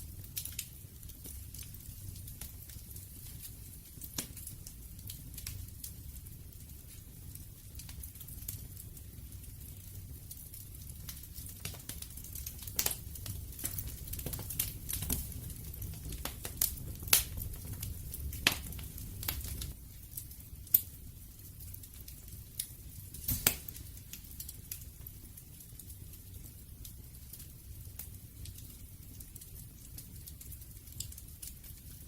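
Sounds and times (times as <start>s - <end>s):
low rumble of flame: 0.0s - 32.0s
wood fire crackling and popping: 0.0s - 32.0s.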